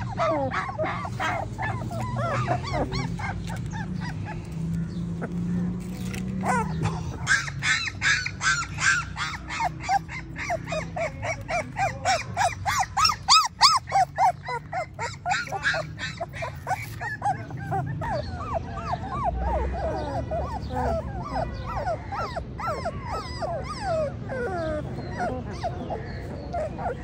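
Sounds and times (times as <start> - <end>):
puppies whining and yelping: 0.0 - 27.0.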